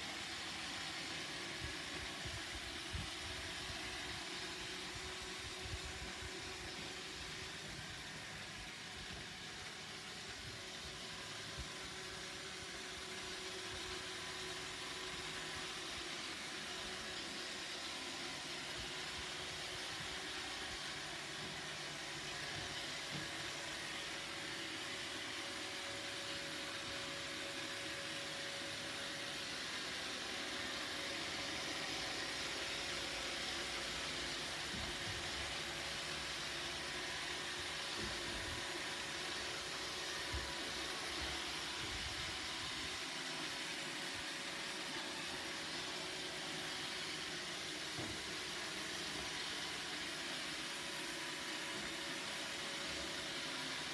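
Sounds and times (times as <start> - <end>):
robot vacuum whirring: 0.0 - 53.9.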